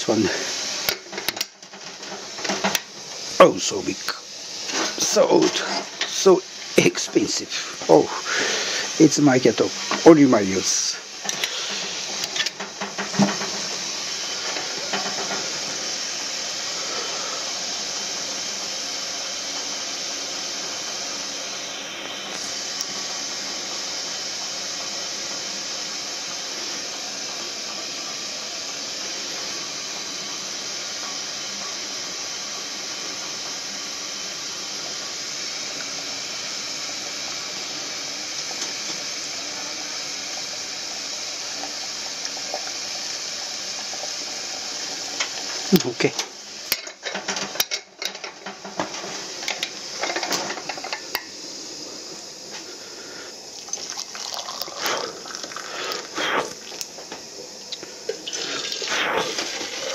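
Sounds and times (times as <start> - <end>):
kettle hissing steam: 0.0 - 59.9.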